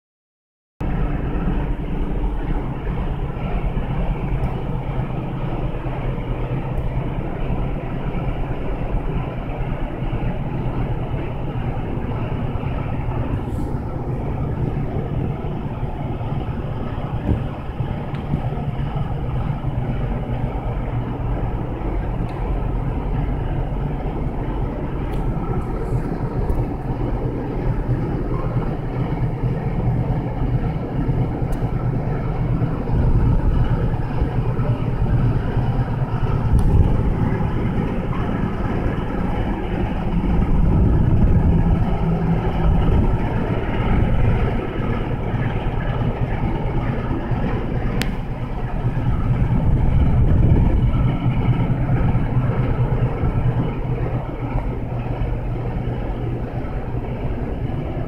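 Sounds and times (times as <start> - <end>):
kitchen machinery drone: 0.8 - 58.0.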